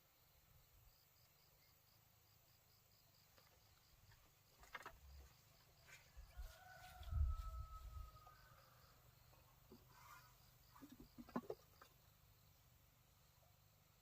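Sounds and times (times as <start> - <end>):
faint insect chirps: 0.0 - 14.0.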